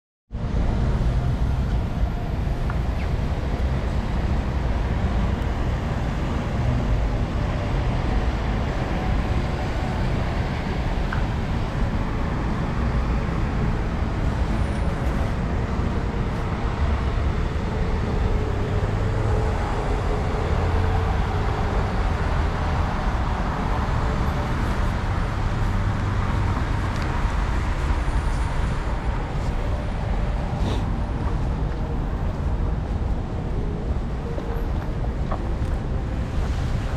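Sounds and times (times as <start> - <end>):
cars passing with low rumble: 0.3 - 36.9.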